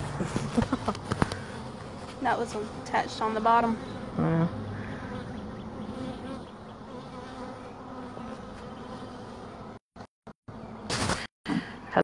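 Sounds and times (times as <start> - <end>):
honeybees buzzing: 0.0 - 9.8.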